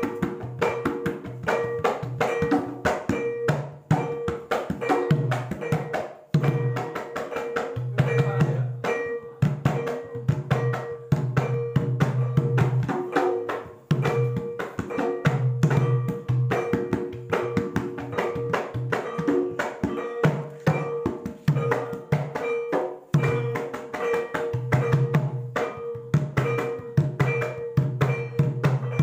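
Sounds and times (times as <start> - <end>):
drum strokes: 0.0 - 29.0
gamelan music: 0.0 - 29.0
ringing metal notes: 0.0 - 29.0.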